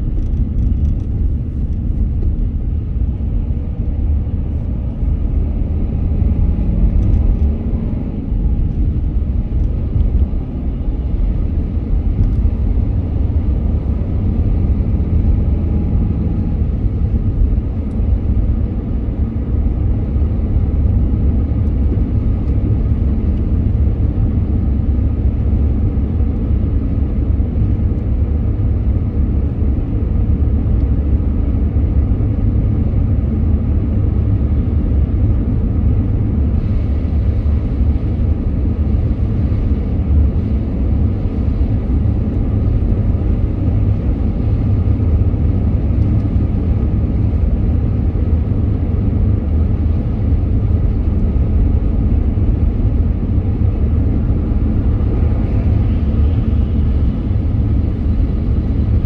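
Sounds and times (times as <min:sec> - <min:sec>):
car driving low rumble: 0:00.0 - 0:59.0.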